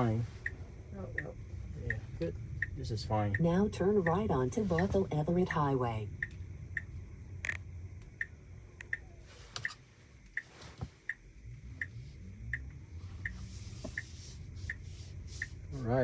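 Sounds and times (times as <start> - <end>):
low road rumble: 0.0 - 16.0
turn signal ticking: 0.0 - 16.0.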